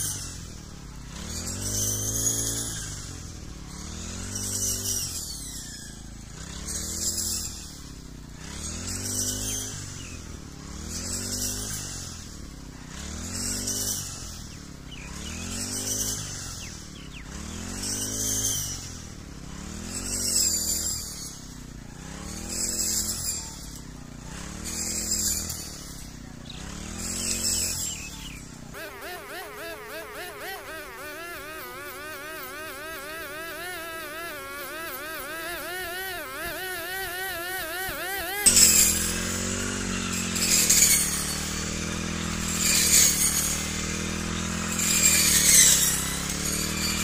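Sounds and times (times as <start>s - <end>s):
brush cutter engine running: 0.0s - 47.0s.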